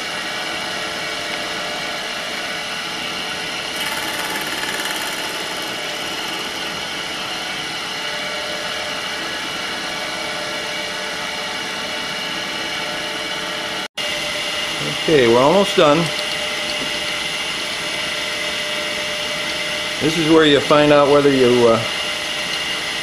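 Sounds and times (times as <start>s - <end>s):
milling machine motor whine: 1.3s - 11.0s, 13.0s - 23.0s.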